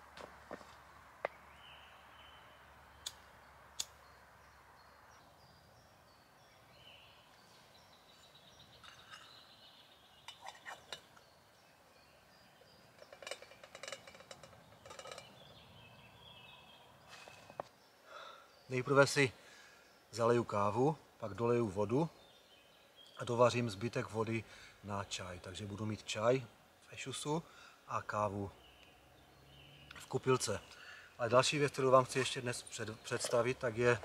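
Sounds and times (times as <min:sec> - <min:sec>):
faint birdsong: 0:00.0 - 0:34.0.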